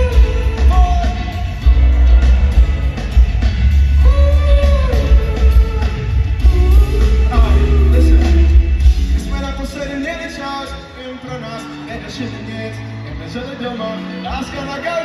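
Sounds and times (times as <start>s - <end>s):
live pop-rock band with singing: 0.0s - 15.0s.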